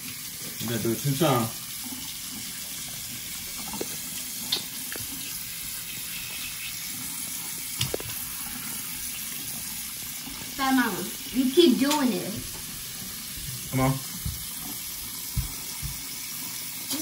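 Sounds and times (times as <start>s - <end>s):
faucet water running into sink: 0.0s - 17.0s.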